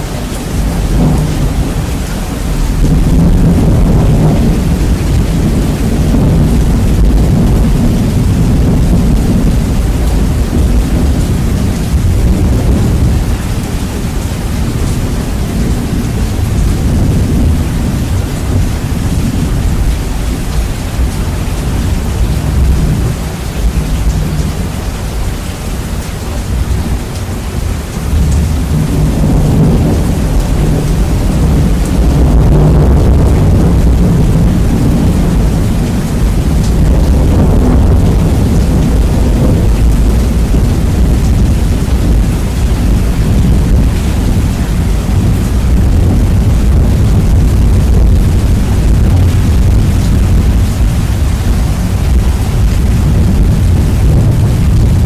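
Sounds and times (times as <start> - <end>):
heavy rain: 0.0 - 55.0
rolling thunder: 0.0 - 55.0.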